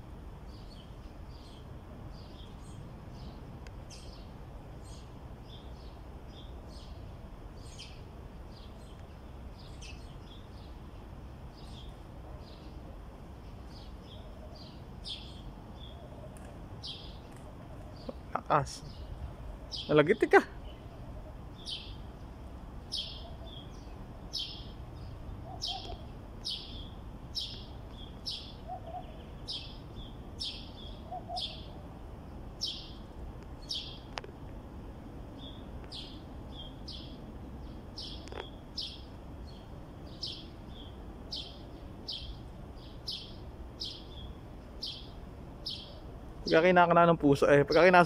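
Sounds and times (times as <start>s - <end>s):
small bird chirping: 0.5s - 7.0s, 7.6s - 10.8s, 13.4s - 31.8s, 32.6s - 34.2s, 35.4s - 46.1s.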